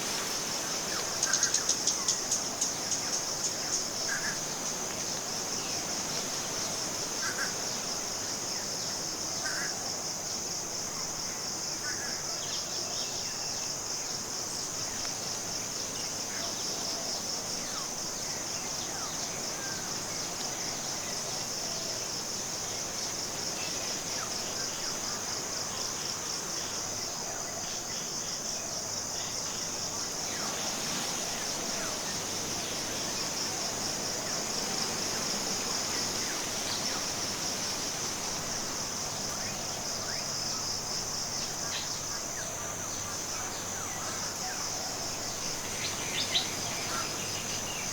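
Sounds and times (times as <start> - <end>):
insect chorus: 0.0 - 47.9.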